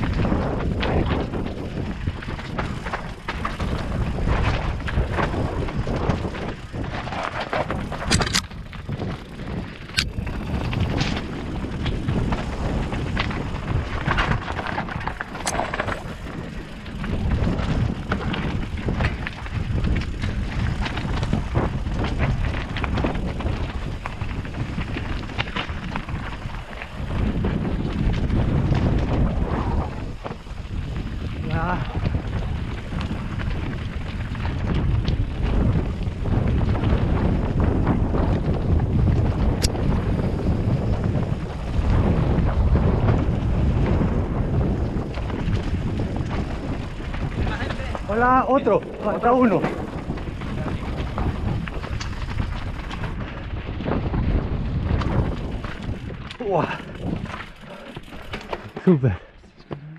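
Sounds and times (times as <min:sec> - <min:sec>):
wind buffeting microphone: 0:00.0 - 0:59.6
bike knocking and rattling: 0:00.0 - 0:59.8
tyres rumbling over rock: 0:00.0 - 0:59.8.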